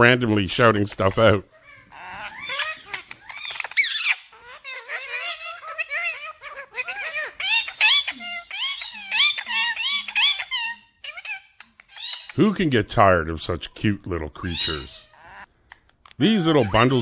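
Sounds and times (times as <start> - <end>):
parakeets chattering and squawking: 0.0 - 17.0
parakeets mimicking words: 1.0 - 17.0.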